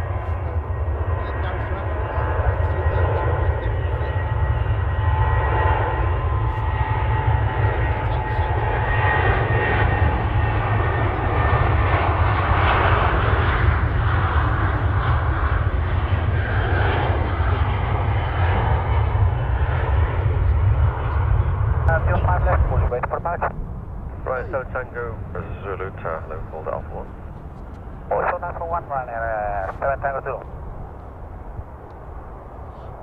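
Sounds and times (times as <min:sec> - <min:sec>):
airliner engines running: 0:00.0 - 0:33.0.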